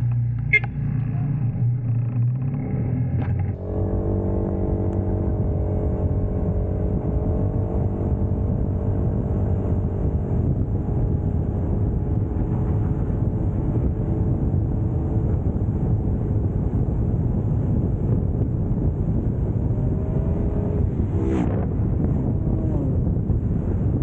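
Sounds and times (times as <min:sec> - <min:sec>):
motorcycle engine cruising: 0:00.0 - 0:24.0
rushing wind noise: 0:03.5 - 0:24.0.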